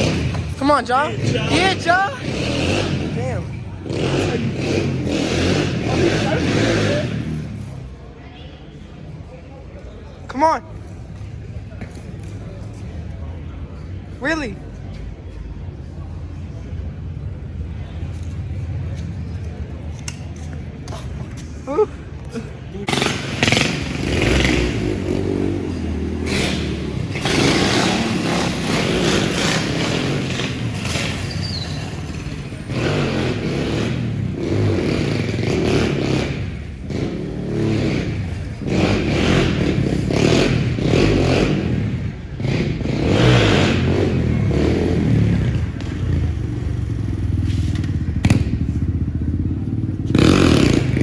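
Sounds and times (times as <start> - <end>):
motorcycle engines revving: 0.0 - 8.2, 16.2 - 51.0.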